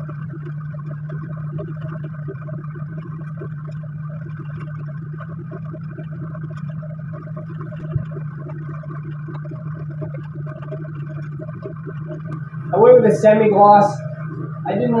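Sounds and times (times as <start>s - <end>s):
machine humming with flutter: 0.0s - 15.0s.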